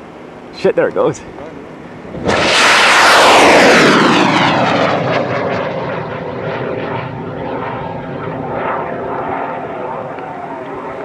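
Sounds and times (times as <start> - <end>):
rocket motor roar: 1.9 - 11.0.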